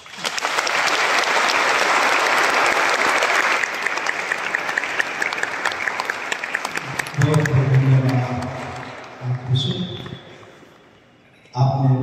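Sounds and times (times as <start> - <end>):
congregation applauding: 0.0 - 10.6.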